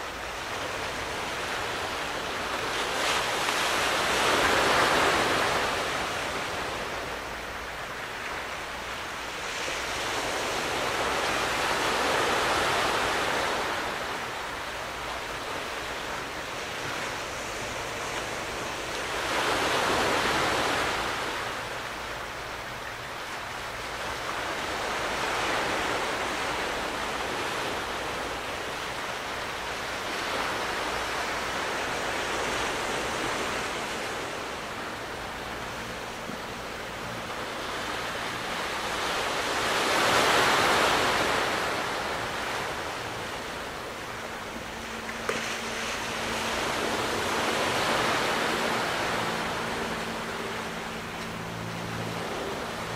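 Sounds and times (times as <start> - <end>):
sea waves washing onto shore: 0.0 - 52.9.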